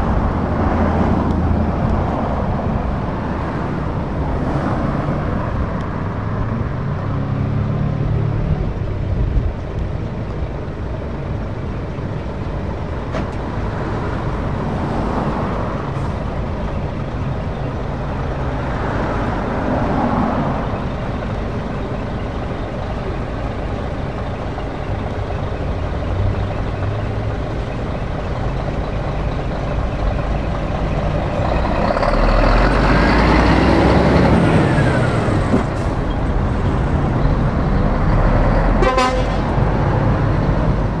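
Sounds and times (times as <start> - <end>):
diesel truck driving past: 0.0 - 41.0.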